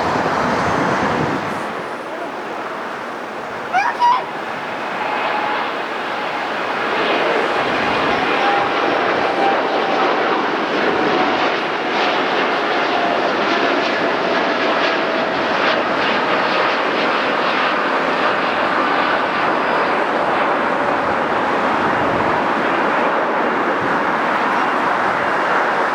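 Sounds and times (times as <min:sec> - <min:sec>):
jet airliner engine: 0:00.0 - 0:25.9.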